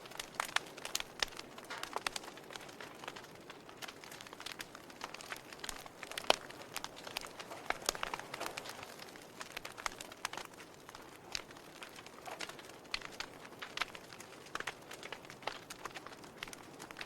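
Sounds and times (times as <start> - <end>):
burning logs crackling: 0.0 - 17.0.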